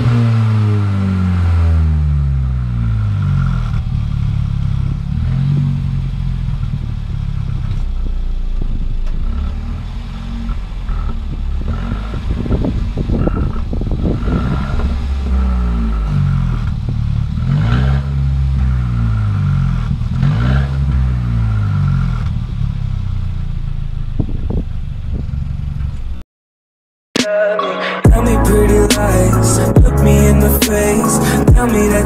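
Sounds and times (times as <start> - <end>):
car engine revving: 0.0 - 26.1, 28.1 - 32.0.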